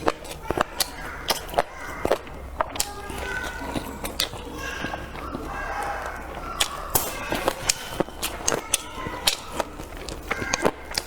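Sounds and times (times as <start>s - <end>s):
mouth clicks: 0.0s - 11.0s
person biting and chewing: 0.0s - 11.0s.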